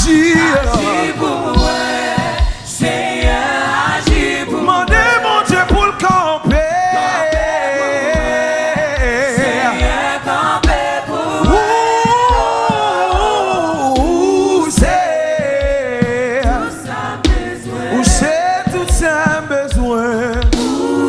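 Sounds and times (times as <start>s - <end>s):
gospel voices singing: 0.0s - 21.0s
steady drum beat: 0.0s - 21.0s.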